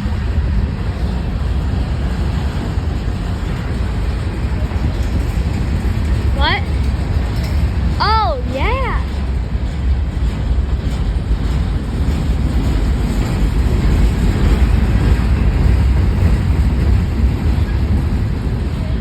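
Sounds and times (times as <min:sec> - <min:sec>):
freight train cars rumbling: 0:00.0 - 0:19.0
wind noise on microphone: 0:00.0 - 0:19.0.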